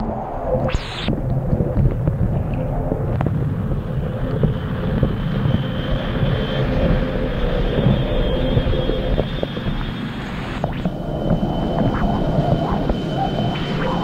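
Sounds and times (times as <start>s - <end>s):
muffled churning water: 0.0s - 14.0s.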